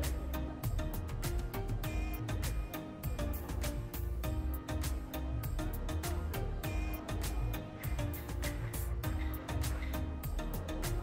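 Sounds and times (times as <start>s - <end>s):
music with quick beat and bass: 0.0s - 11.0s.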